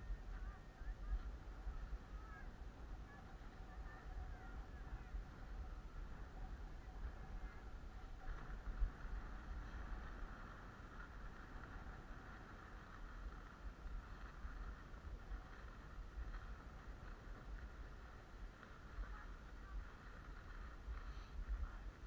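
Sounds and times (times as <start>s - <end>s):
skis scraping on snow: 0.0s - 22.0s
wind buffeting microphone: 0.0s - 22.0s.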